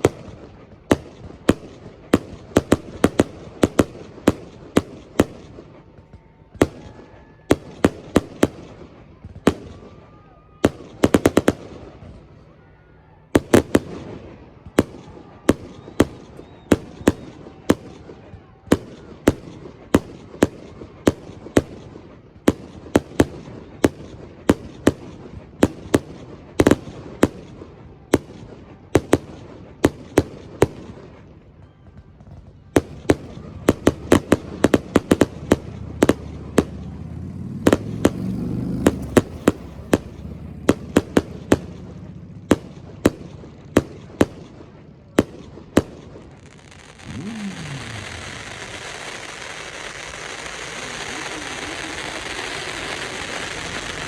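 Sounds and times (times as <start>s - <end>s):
fireworks bangs: 0.0s - 54.0s
low rumble of fireworks: 0.0s - 54.0s.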